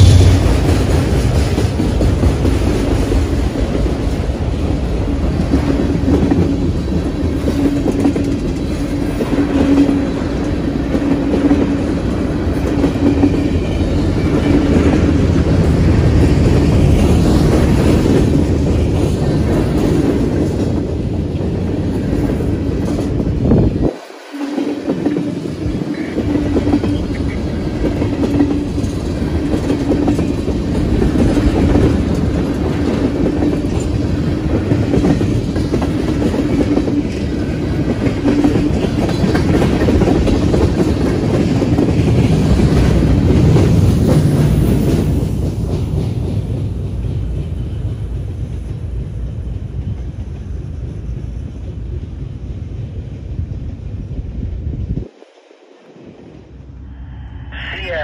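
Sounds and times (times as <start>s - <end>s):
freight train wheels clattering: 0.0s - 53.7s.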